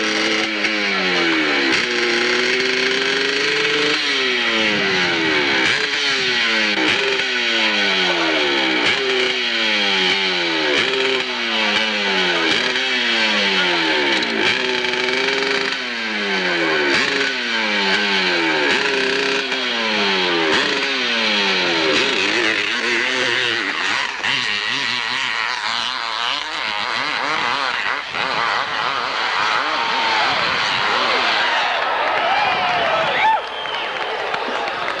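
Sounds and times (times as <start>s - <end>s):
racing motorcycle engine revving: 0.0s - 35.0s.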